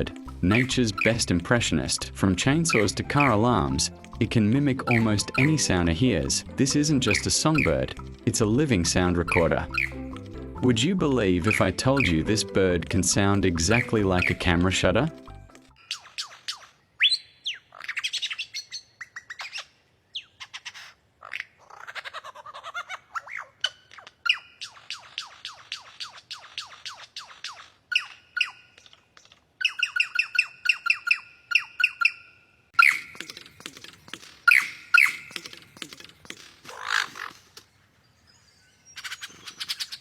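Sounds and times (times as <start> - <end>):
lyrebird singing mimicry: 0.0 - 37.4, 38.1 - 40.0.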